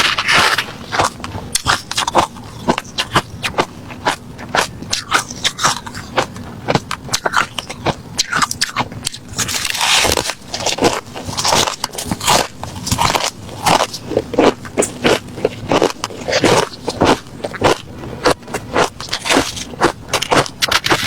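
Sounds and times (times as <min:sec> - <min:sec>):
person chewing crushed ice: 0:00.0 - 0:21.0.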